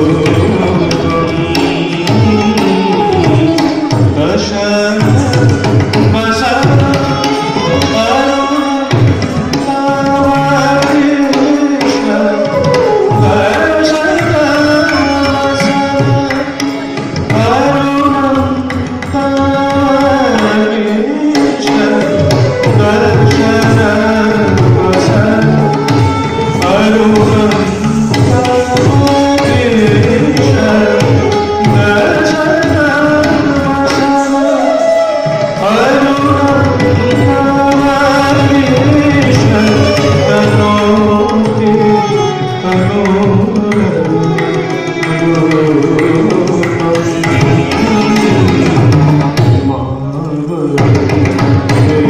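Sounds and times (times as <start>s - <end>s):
bamboo flute melody: 0.0s - 49.7s
hand drum strokes: 0.0s - 49.8s.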